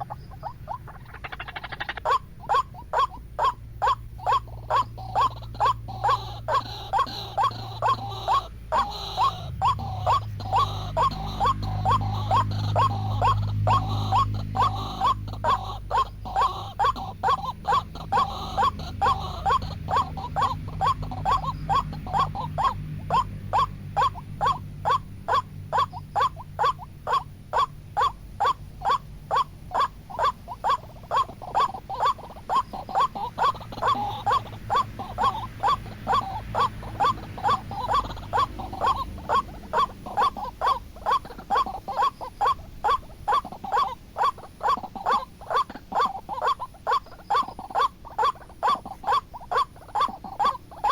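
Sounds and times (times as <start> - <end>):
waterhen harsh calls: 0.0 - 50.9.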